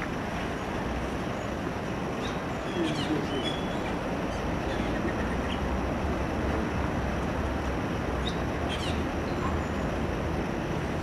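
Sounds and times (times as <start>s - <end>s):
outdoor rumble and hiss: 0.0s - 11.0s.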